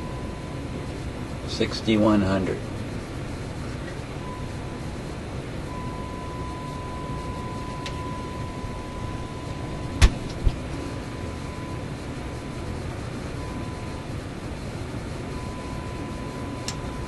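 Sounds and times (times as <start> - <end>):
radio static hiss and rumble: 0.0 - 17.0
steady test tone: 0.0 - 17.0.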